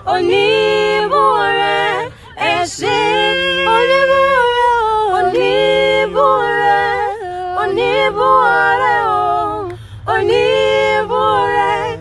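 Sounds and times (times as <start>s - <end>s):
a cappella group singing: 0.0s - 12.0s.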